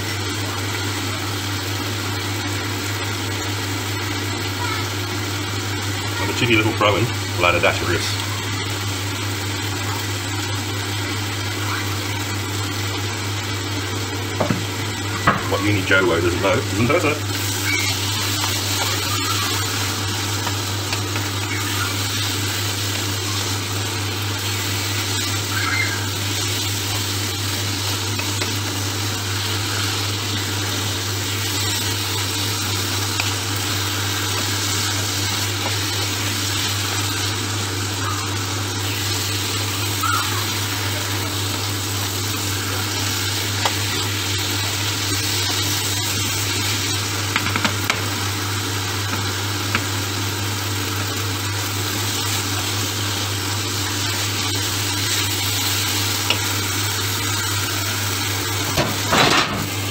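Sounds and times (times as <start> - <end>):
meat sizzling in a frying pan: 0.0 - 59.9.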